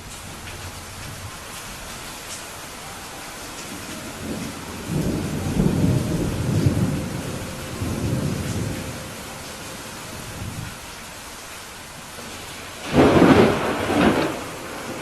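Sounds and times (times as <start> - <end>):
thunder rumbling: 0.0 - 11.3, 12.0 - 15.0
steady rain falling: 0.0 - 15.0.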